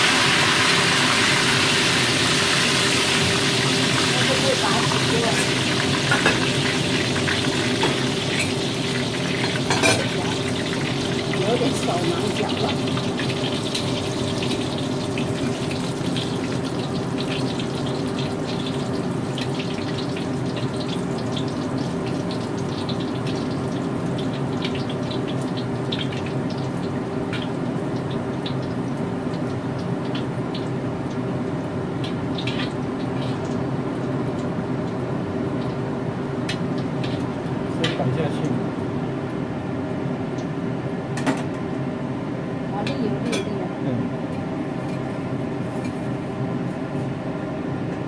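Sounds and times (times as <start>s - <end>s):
hot oil sizzling and crackling: 0.0s - 43.2s, 44.2s - 48.0s.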